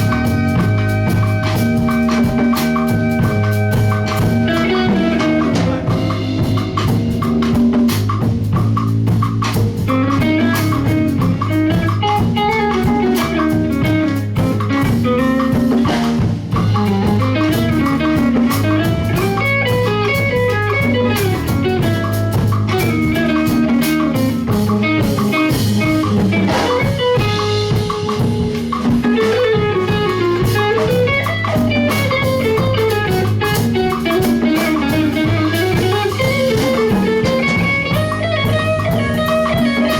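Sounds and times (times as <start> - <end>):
guitar melodic line: 0.0 - 39.9
live band instrumental groove: 0.0 - 39.9.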